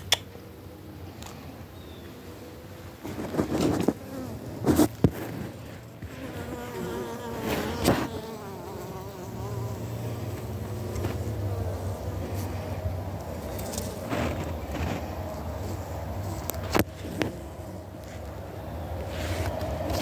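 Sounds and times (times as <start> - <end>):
bees buzzing in hive: 0.4 - 18.1.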